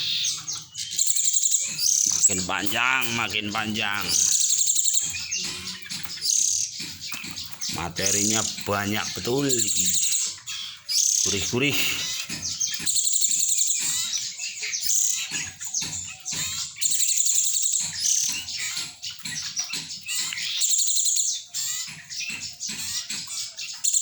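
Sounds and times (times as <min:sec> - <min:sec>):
bird singing rapid chirping trills: 0:00.0 - 0:24.0.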